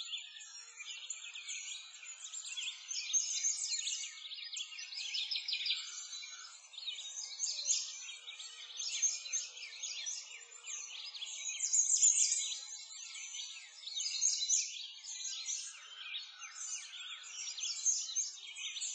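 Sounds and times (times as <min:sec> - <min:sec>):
songbirds chirping and singing: 0:00.0 - 0:18.9.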